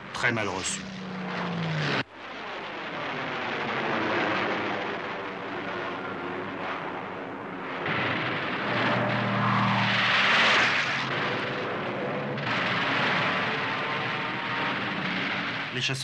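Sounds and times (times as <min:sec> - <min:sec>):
deep steady engine note: 0:00.0 - 0:16.0
propeller aircraft engines droning: 0:00.0 - 0:16.0.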